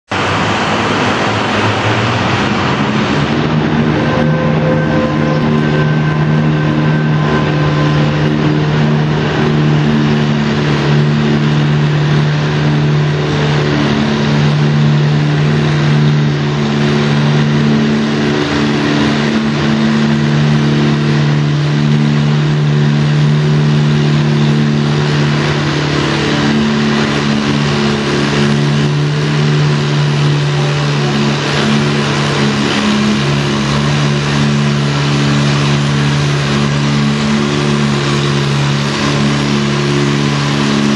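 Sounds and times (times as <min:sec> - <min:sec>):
tractor engine under heavy load: 0:00.0 - 0:40.9.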